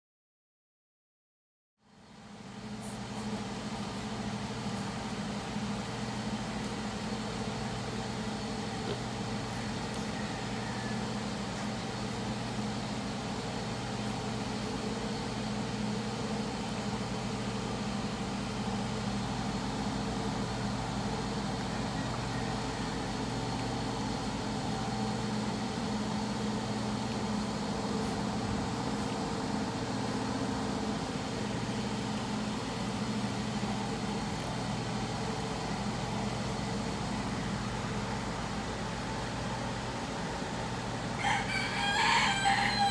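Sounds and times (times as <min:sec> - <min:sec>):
motor humming: 0:02.3 - 0:41.5.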